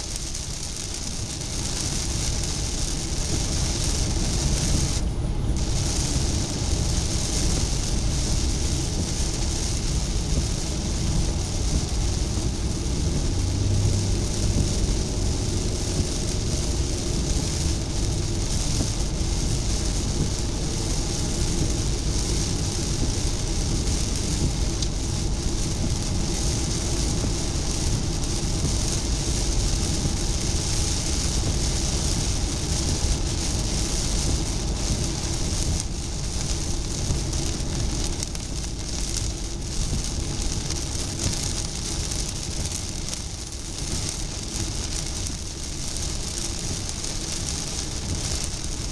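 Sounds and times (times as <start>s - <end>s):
car road noise rumble: 0.0s - 48.9s
rain hitting windshield and roof: 0.0s - 48.9s
tyres hissing on wet road: 0.0s - 48.9s.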